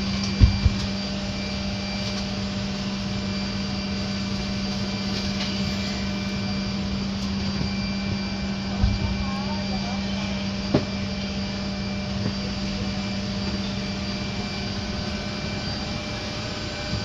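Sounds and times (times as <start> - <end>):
constant low hum: 0.0 - 17.0
engine and air drone: 0.0 - 17.0.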